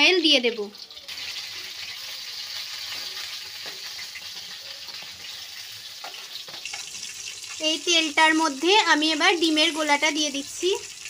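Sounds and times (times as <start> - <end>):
stir-fry sizzling in a pan: 0.0 - 11.0.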